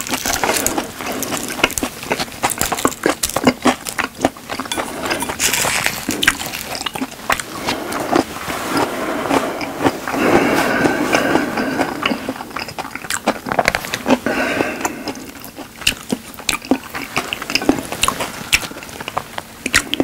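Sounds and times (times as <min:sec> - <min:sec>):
mouth clicks and crunches: 0:00.0 - 0:20.0
wet chewing: 0:00.0 - 0:20.0.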